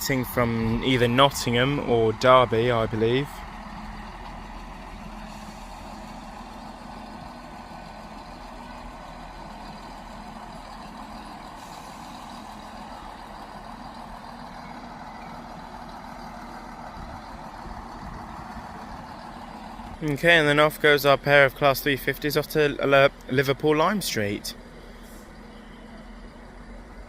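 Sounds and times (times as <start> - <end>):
train engines humming: 0.0 - 27.0.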